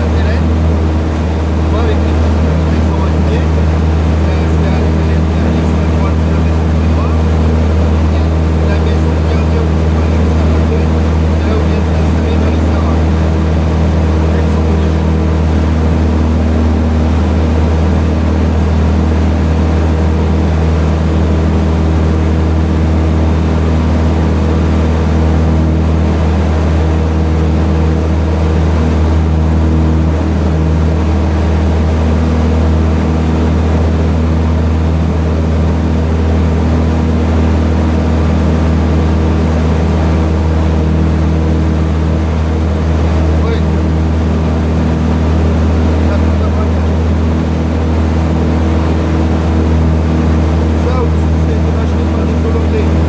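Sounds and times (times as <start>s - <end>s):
aircraft engine and propeller droning: 0.0s - 53.0s.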